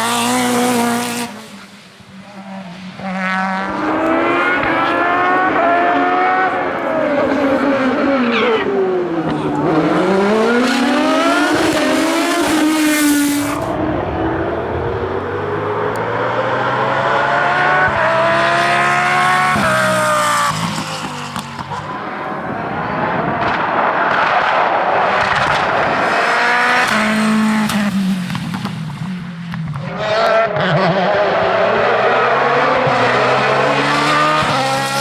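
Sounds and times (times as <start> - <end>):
race car engine accelerating: 3.0 - 35.0.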